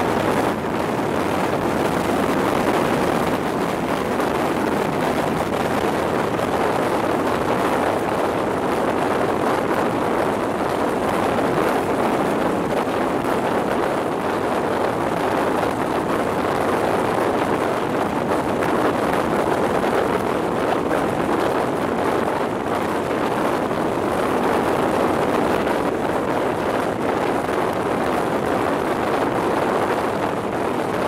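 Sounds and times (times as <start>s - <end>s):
wind over microphone: 0.0s - 31.0s.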